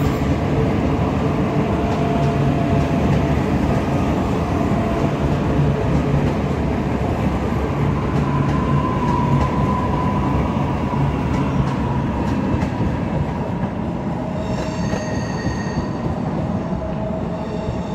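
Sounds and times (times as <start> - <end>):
electric train rumble and motor hum: 0.0 - 17.9.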